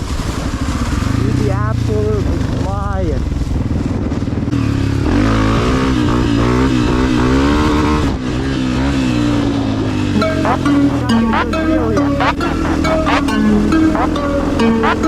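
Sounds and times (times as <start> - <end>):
dirt bike engine revving: 0.7 - 15.0.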